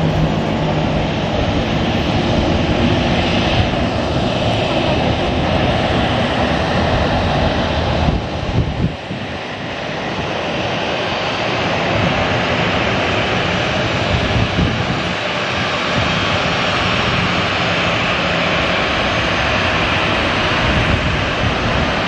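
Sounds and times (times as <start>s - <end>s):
jet engines at taxi power: 0.0s - 22.0s.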